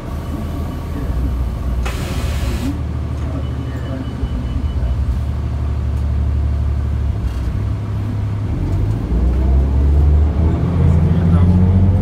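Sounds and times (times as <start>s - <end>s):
bus diesel engine idling and revving: 0.0s - 12.0s.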